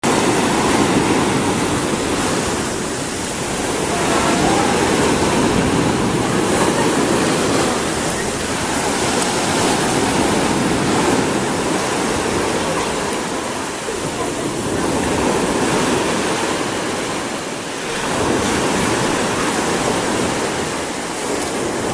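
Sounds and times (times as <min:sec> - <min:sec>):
water rushing: 0:00.0 - 0:21.9.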